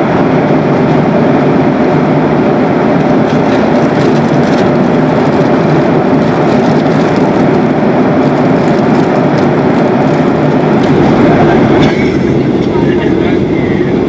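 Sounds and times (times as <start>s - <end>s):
airliner cabin engine noise: 0.0s - 14.0s.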